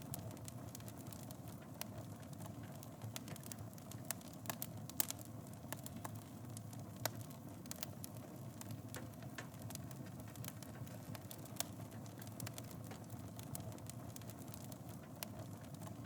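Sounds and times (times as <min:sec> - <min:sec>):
fire crackles and pops: 0:00.0 - 0:16.0
wood fire flame rushing: 0:00.0 - 0:16.0.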